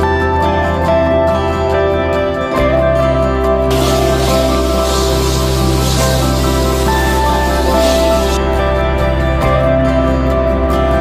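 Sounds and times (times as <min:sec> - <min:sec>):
gentle new-age music: 0:00.0 - 0:11.0.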